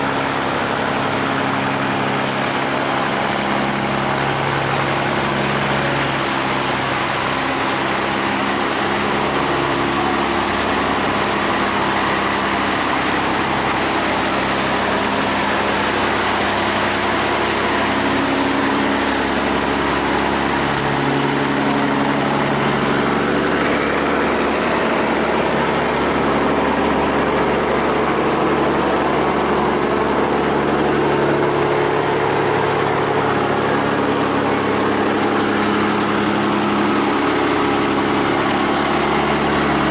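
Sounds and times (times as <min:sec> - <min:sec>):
boat engines humming: 0:00.0 - 0:39.9
water rushing: 0:00.0 - 0:39.9.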